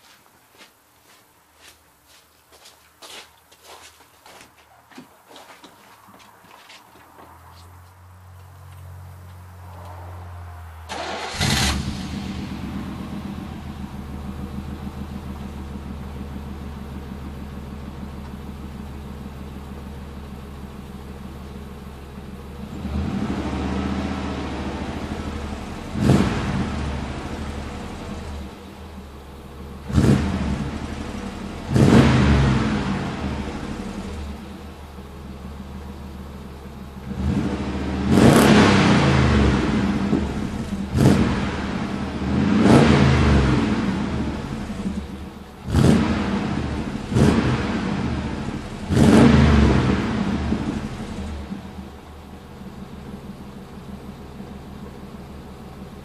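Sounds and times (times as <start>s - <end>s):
pickup engine idling and revving: 6.2s - 56.0s.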